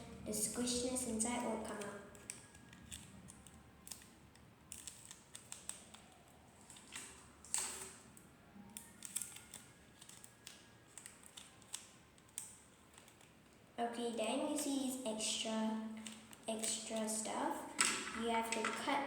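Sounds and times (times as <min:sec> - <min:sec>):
tape crinkling and clicking: 0:00.6 - 0:13.8, 0:15.9 - 0:19.0.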